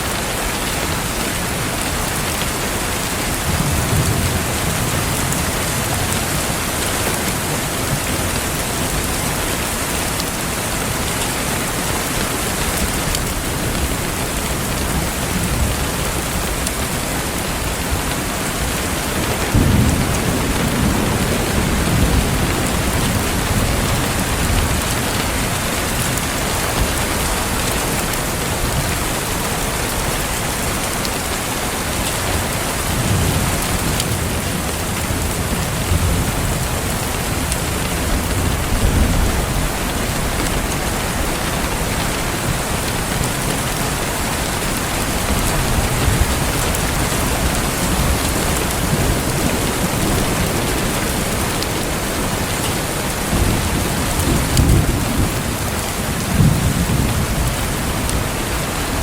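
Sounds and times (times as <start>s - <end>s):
rain falling: 0.0s - 59.0s
low thunder rumbling: 3.2s - 11.0s, 12.1s - 30.4s, 32.5s - 59.0s.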